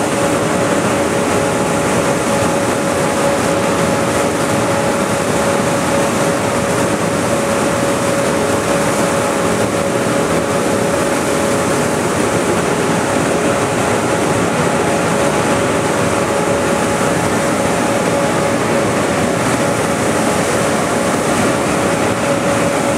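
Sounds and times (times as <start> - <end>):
large fan rushing air: 0.0 - 22.9.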